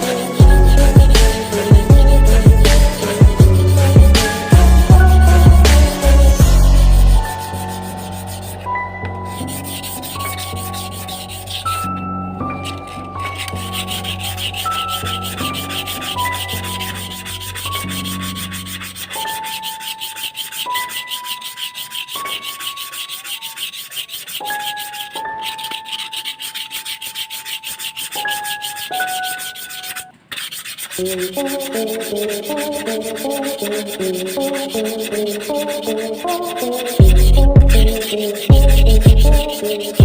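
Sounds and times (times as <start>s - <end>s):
background music: 0.0s - 30.2s, 30.8s - 40.0s
sanding metal: 0.0s - 40.0s.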